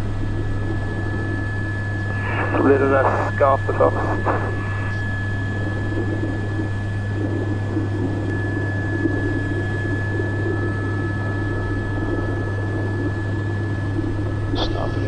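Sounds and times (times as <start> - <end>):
helicopter rotor and engine drone: 0.0 - 15.0
high engine whine: 0.0 - 15.0.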